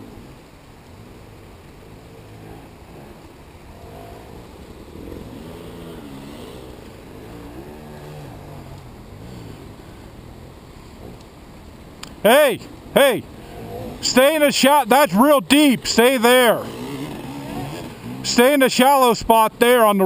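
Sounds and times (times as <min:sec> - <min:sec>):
motorcycle engine revving: 0:00.0 - 0:11.2, 0:13.2 - 0:18.7.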